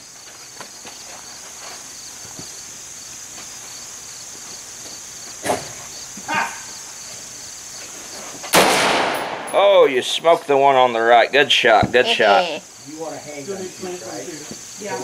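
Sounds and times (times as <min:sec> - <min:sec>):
pulsing insect chirring: 0:00.0 - 0:15.0.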